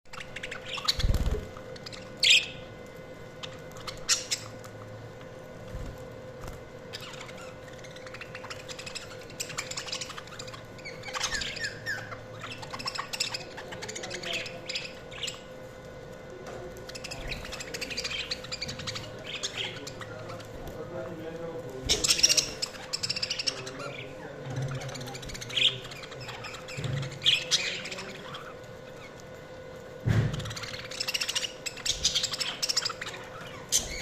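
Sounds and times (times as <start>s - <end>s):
budgerigars chirping and squawking: 0.1s - 2.7s, 3.4s - 4.7s, 6.9s - 15.6s, 16.8s - 29.3s, 30.1s - 34.0s
faint steady hum: 0.1s - 34.0s.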